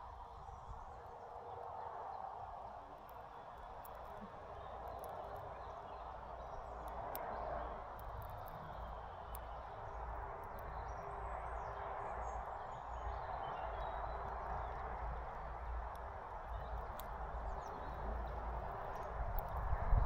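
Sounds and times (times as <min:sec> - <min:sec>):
outdoor background hum: 0:00.0 - 0:20.0
faint songbird chirps: 0:03.0 - 0:20.0.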